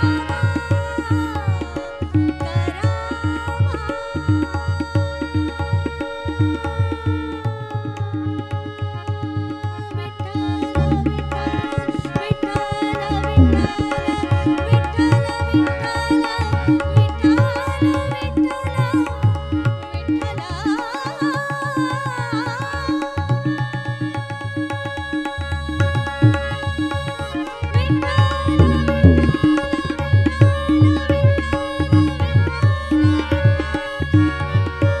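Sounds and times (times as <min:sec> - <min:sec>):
woman singing: 0:00.0 - 0:34.8
harmonium chords: 0:00.0 - 0:35.0
tabla beat: 0:00.0 - 0:35.0.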